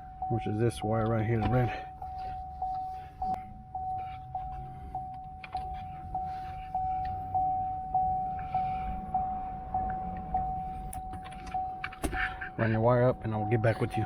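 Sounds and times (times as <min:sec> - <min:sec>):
car warning chime dinging: 0:00.0 - 0:14.0.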